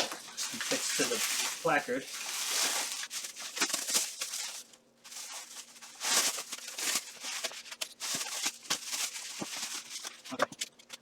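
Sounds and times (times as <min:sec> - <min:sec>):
armor rustling: 0:00.0 - 0:10.3.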